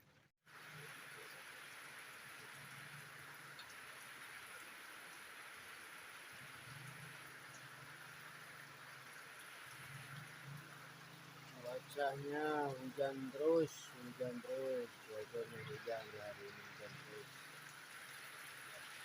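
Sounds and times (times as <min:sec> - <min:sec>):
steady rain falling: 0:00.5 - 0:19.0.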